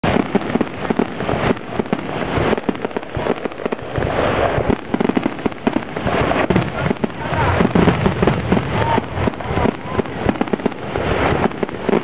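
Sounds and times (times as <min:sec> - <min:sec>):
fireworks bursts and bangs: 0:00.0 - 0:12.0
fireworks crackling: 0:00.0 - 0:12.0.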